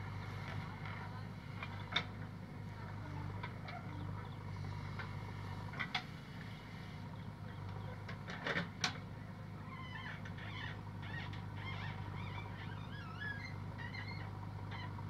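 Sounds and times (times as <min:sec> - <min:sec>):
diesel engine running under load: 0:00.0 - 0:15.0
tractor idling: 0:00.0 - 0:15.0.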